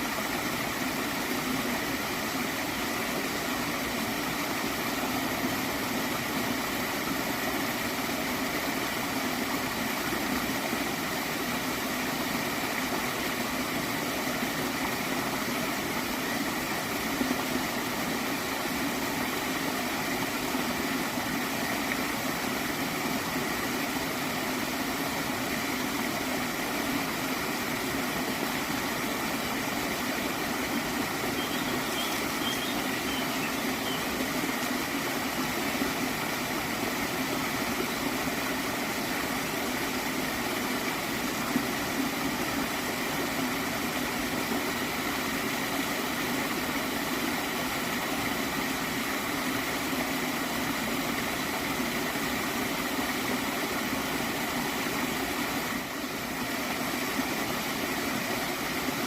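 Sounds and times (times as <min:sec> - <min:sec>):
stream gurgling: 0:00.0 - 0:59.0.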